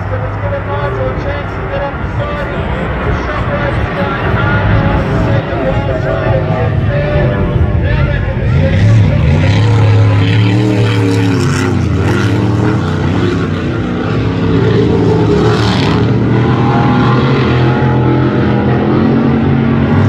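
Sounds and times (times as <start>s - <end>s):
powerboat engines running hard: 0.0s - 20.0s.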